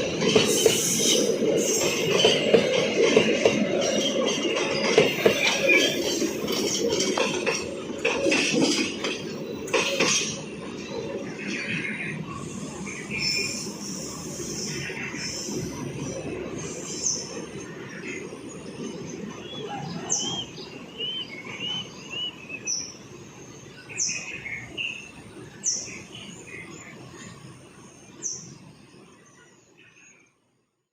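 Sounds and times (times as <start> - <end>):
train rumble: 0.0 - 30.5.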